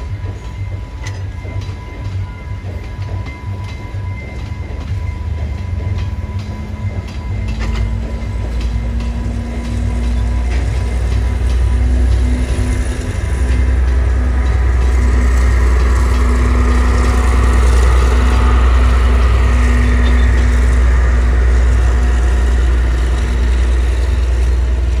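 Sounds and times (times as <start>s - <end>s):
diesel train engine droning: 0.0s - 25.0s.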